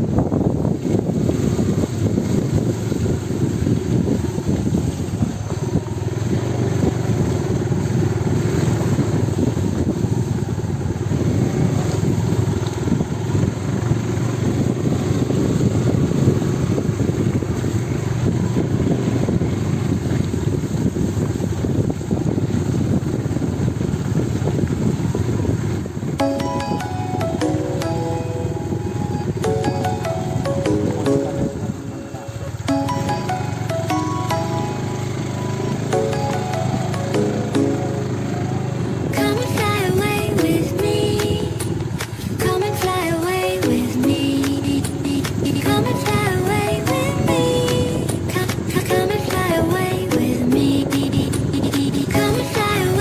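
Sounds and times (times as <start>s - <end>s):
road noise: 0.0s - 53.0s
vehicle engine drone: 0.0s - 53.0s.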